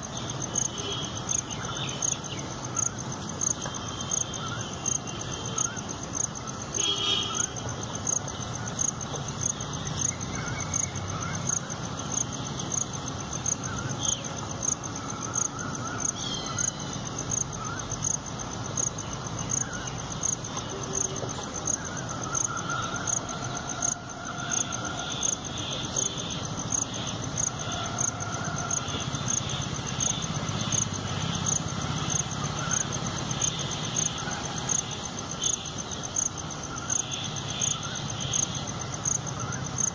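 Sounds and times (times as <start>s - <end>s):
faint irregular insect calls: 0.0s - 39.9s
insect chirping: 0.0s - 39.9s.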